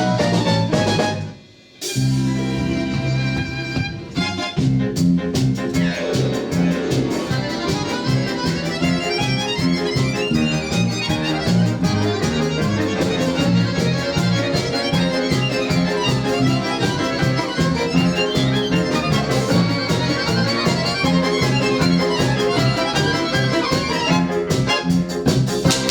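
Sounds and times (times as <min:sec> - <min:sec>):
accordion playing: 0:00.0 - 0:25.9.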